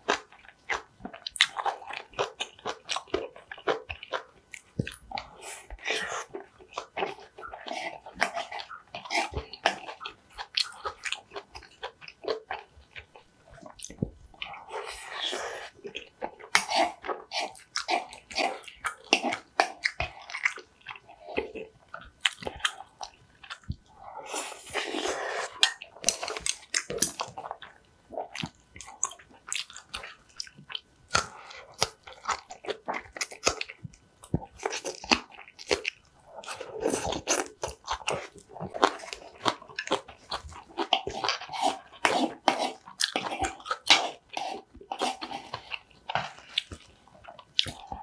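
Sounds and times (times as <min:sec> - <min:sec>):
woman chewing food: 0:00.0 - 0:48.0.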